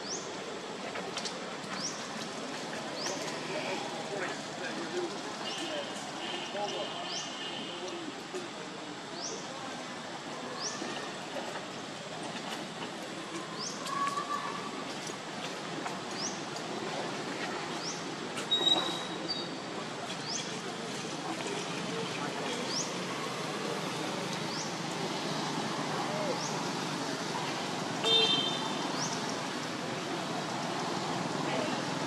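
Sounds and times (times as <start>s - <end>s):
noisy outdoor background: 0.0s - 32.0s.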